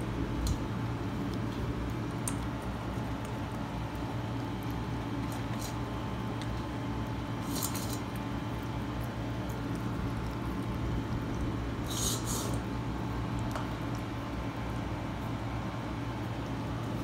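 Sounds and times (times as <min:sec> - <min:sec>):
puppy crunching kibble: 0:00.0 - 0:15.4.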